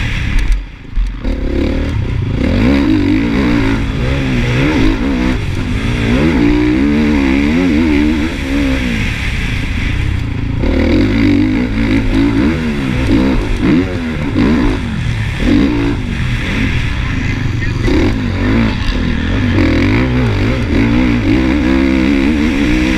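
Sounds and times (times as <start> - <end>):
motocross bike engine revving: 0.0 - 22.9.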